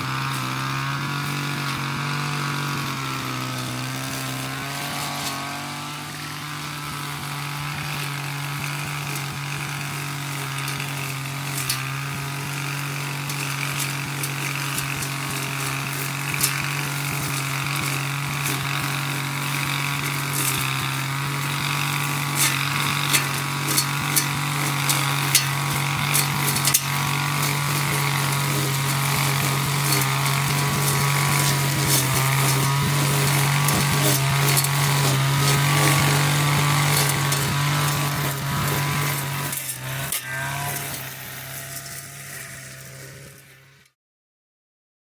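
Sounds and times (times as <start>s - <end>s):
brush cutter running: 0.0s - 44.0s.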